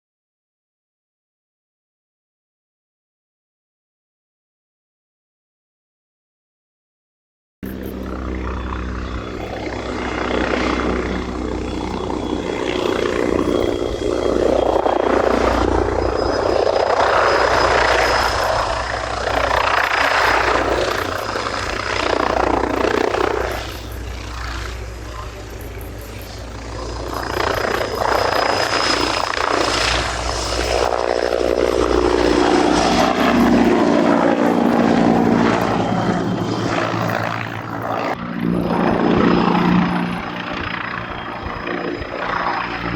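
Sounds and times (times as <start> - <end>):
helicopter rotor and turbine whine: 7.6 - 42.9.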